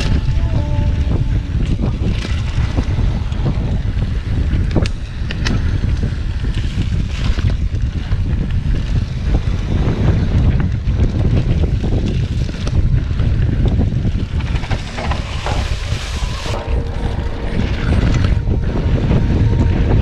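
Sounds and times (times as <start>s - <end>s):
bike clicks and rattles: 0.0s - 19.2s
tyre and trail noise: 0.0s - 20.0s
wind buffeting microphone: 0.0s - 20.0s.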